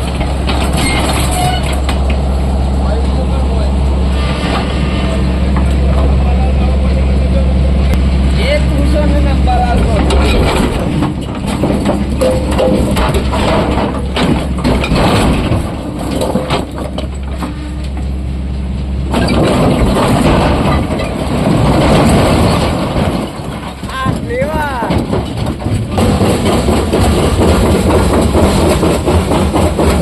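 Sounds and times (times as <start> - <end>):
clattering knocks and crunching: 0.0 - 3.2, 4.2 - 7.0, 7.9 - 30.0
diesel machinery running: 0.0 - 30.0.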